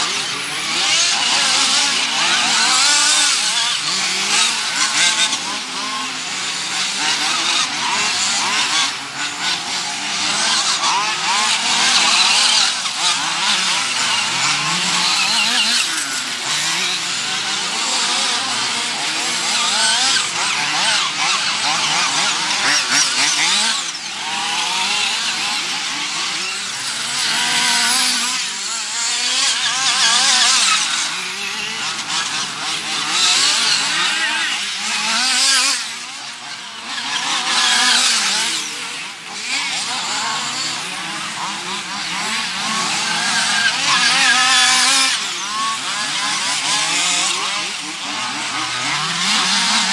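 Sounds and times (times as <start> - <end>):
model buggy engines revving: 0.0 - 49.9.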